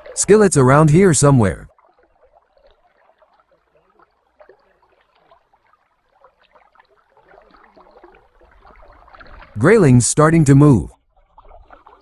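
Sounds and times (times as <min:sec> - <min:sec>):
faint stream babbling: 0:00.0 - 0:12.0.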